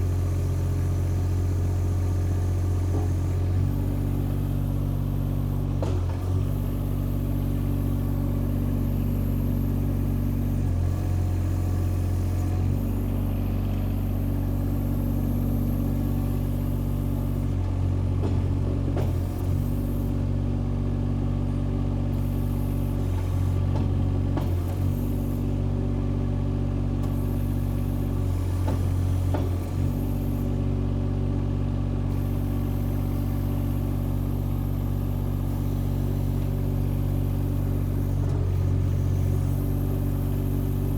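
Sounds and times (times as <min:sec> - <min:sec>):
excavator engine running: 0:00.0 - 0:20.7, 0:22.0 - 0:40.9.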